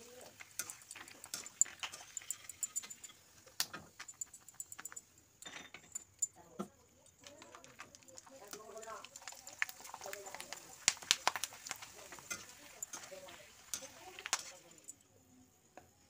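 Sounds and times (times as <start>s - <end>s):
skimmer clinking against pan: 0.0s - 6.4s, 7.1s - 15.0s
potato slices frying in hot oil: 0.0s - 15.2s.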